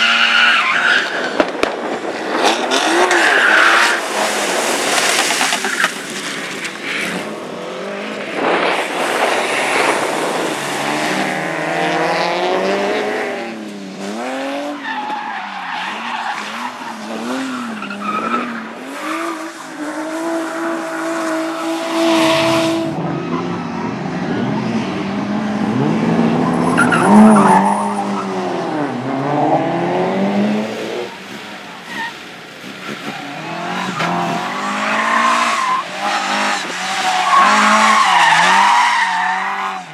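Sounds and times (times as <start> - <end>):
rally car engines revving: 0.0 - 39.9
tyres skidding: 0.0 - 39.9.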